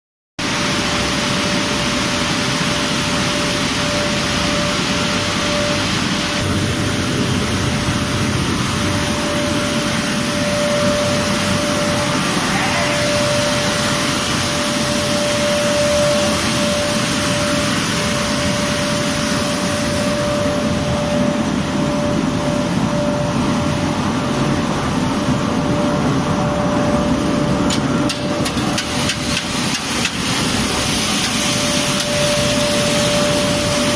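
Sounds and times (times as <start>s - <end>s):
mill machinery din: 0.5s - 33.9s.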